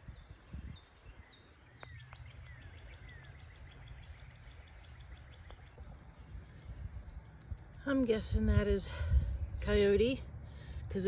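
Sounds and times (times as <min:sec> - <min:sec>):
songbirds chirping and trilling: 0:00.0 - 0:11.0
steady low rumble: 0:00.0 - 0:11.0.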